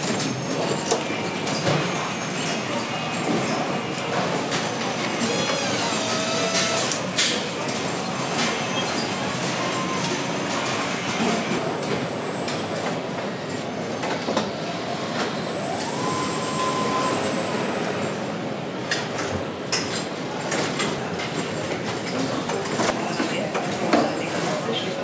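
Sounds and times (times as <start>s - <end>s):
din of conveyors and machinery: 0.0s - 25.0s.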